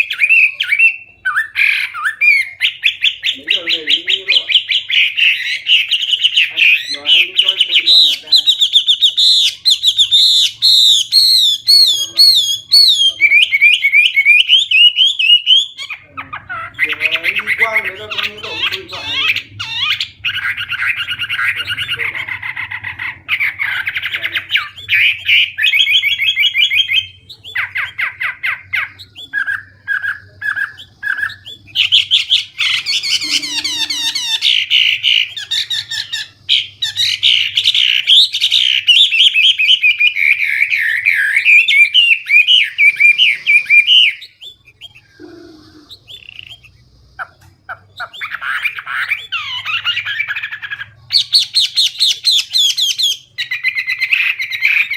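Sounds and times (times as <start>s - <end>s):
songbird singing trills: 0.0s - 54.9s.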